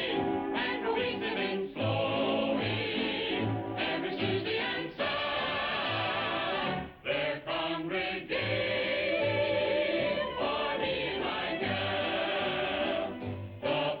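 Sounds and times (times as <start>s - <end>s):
choir singing with instruments: 0.0s - 14.0s.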